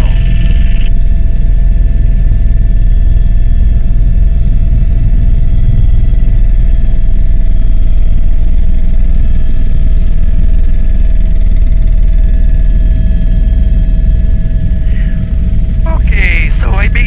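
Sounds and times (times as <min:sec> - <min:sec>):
helicopter rotor and engine rumble: 0:00.0 - 0:17.0
high turbine whine: 0:00.0 - 0:17.0.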